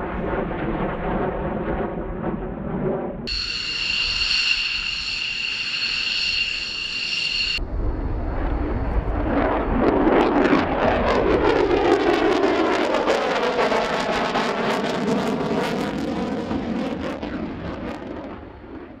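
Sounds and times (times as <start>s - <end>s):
fighter jet flying overhead: 0.0s - 19.0s.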